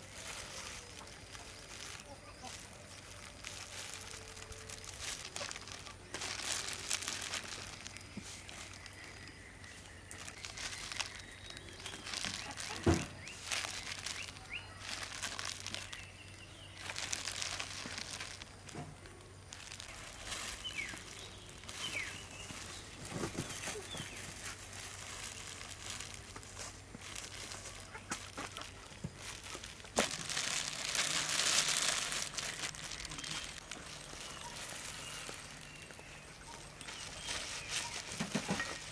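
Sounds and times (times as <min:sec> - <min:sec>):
plastic gloves rustling: 0:00.0 - 0:38.9.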